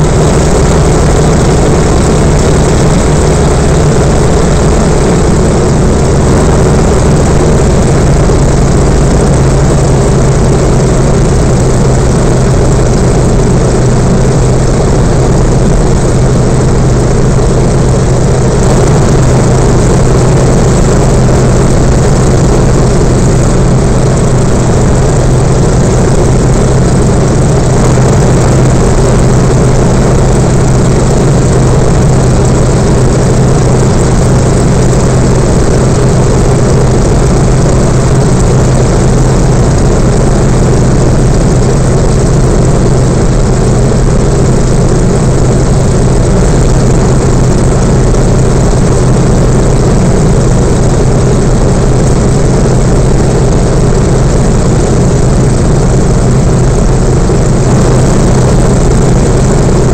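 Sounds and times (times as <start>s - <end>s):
low hum: 0.0s - 59.9s
propeller plane engine droning: 0.0s - 59.9s.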